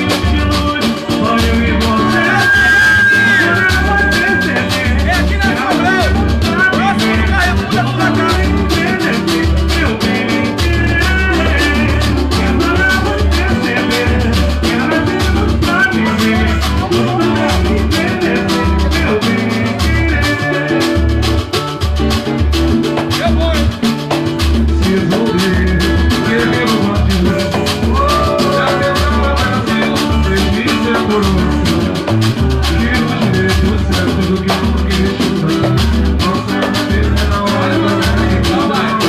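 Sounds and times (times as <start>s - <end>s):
band music: 0.0s - 39.0s
bass line: 0.0s - 39.0s
fast percussion beat: 0.0s - 39.0s.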